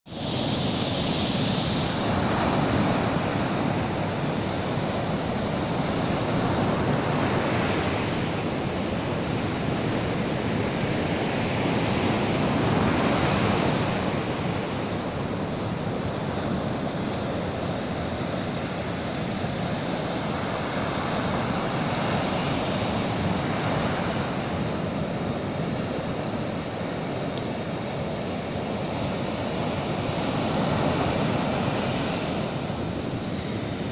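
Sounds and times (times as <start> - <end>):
sea surf washing onto shore: 0.1 - 33.9.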